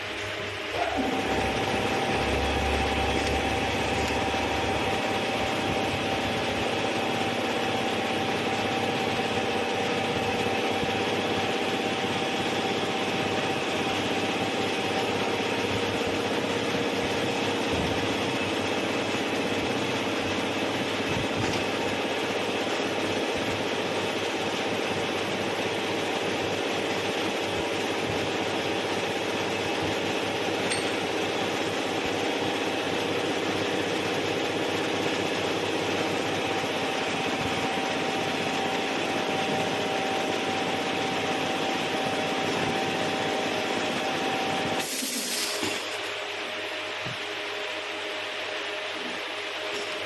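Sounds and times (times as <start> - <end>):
constant machine whine: 0.0 - 50.0
machine hum and hiss: 0.0 - 50.0.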